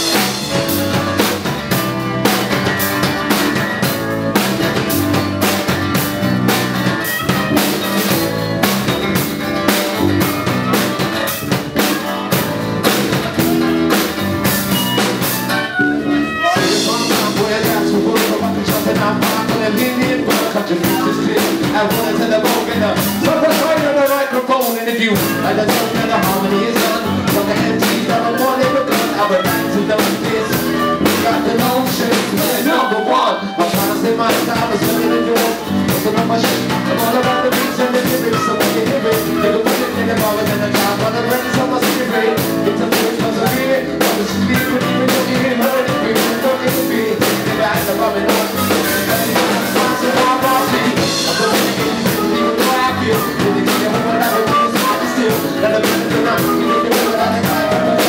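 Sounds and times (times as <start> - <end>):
electric bass: 0.0 - 24.0, 25.2 - 33.0, 33.7 - 58.0
harmonica: 0.0 - 24.0, 25.1 - 58.0
acoustic guitar: 0.0 - 58.0
drum kit: 0.0 - 58.0
person singing: 9.0 - 58.0.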